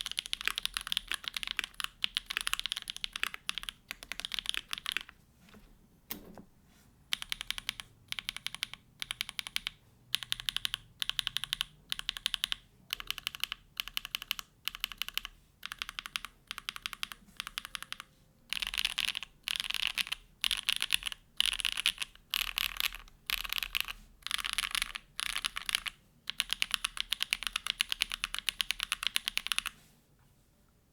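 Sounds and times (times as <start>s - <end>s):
typing on mechanical keyboard: 0.0s - 6.4s, 7.1s - 29.8s.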